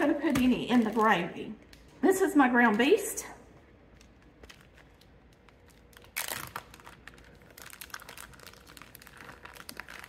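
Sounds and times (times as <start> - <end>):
plastic bag crinkling: 0.0 - 2.0, 3.7 - 10.0.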